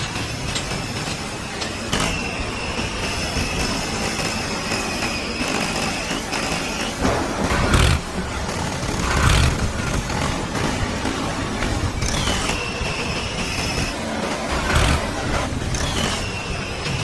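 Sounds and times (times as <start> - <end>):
small motor rumbling: 0.0 - 17.0.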